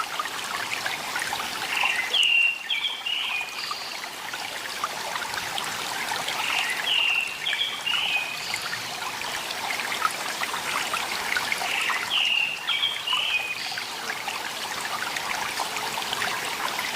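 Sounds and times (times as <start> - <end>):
small stream trickling: 0.0 - 16.9.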